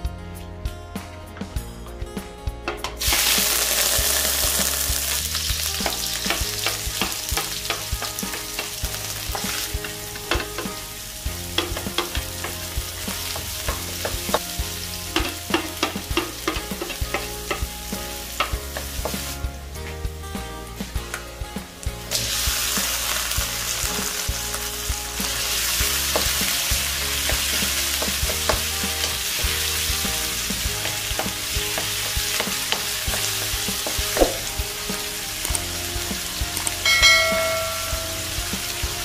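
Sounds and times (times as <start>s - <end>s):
food sizzling in hot oil: 3.0s - 19.6s, 21.8s - 39.0s.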